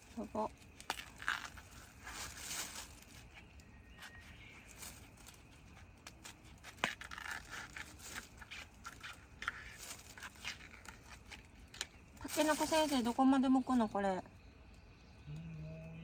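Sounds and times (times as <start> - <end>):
husks tearing and snapping: 0.2 - 13.2.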